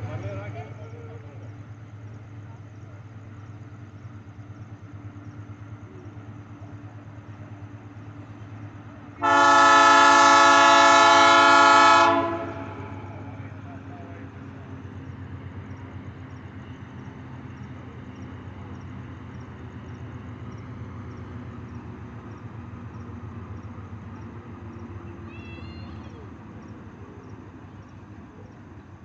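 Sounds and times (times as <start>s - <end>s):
faint insect chirping: 0.0s - 9.2s, 12.8s - 29.0s
diesel locomotive engine rumble: 0.0s - 29.0s.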